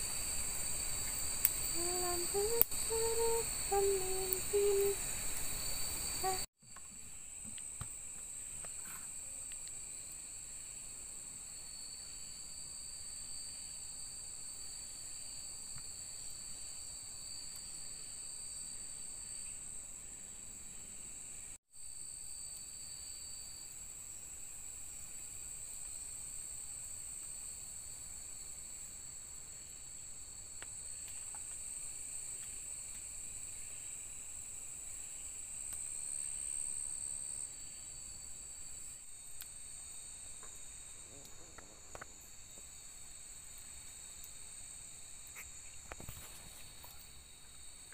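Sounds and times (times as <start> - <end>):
crickets chirping chorus: 0.0 - 47.9.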